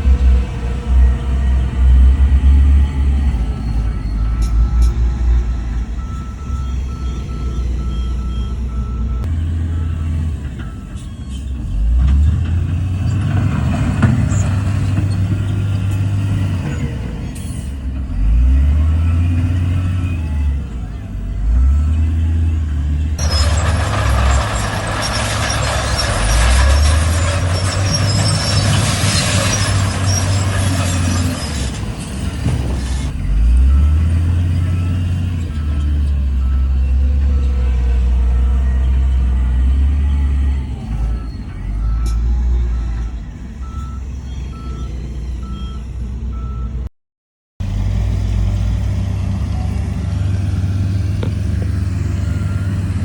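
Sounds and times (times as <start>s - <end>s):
diesel engines revving: 0.0s - 46.9s, 47.6s - 53.0s.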